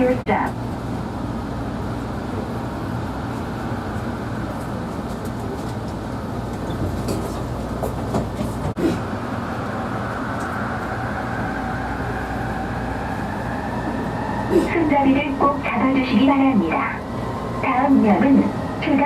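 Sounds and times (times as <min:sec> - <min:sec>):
train car rumble and hum: 0:00.0 - 0:19.0.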